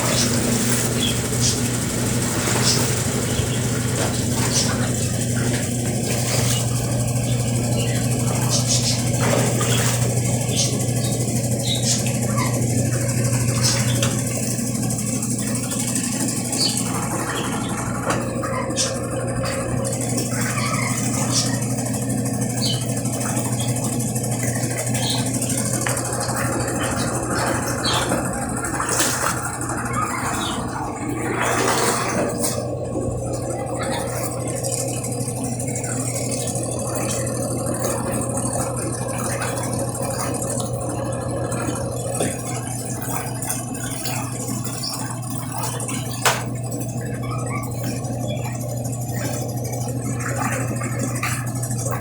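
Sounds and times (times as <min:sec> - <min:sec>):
washing machine running: 0:00.0 - 0:52.0.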